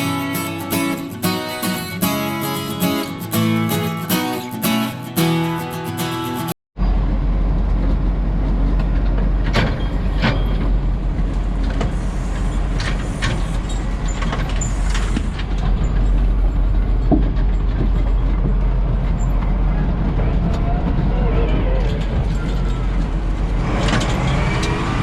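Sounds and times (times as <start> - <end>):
vehicle engine rumbling: 4.6 - 25.0.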